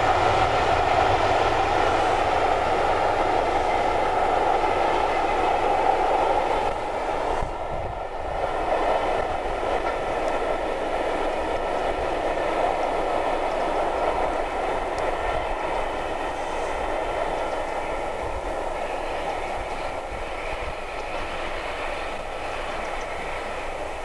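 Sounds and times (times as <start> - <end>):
steam locomotive exhaust: 0.0 - 24.0
train running on rails: 0.0 - 24.0.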